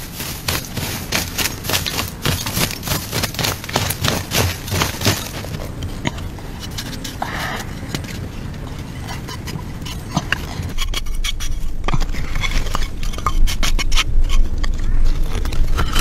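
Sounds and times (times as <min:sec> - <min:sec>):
hands scraping ash and soil: 0:00.0 - 0:16.0.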